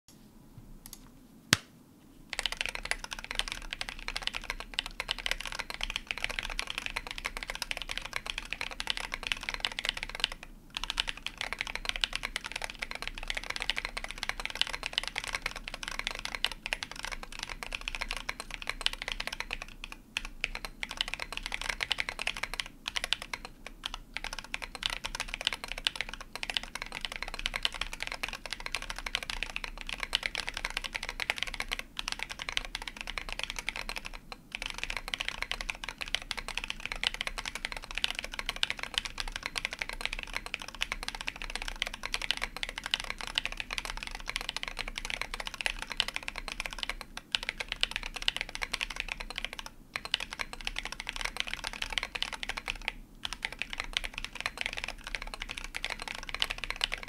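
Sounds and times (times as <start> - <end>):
mechanical keyboard typing: 2.3 - 57.0.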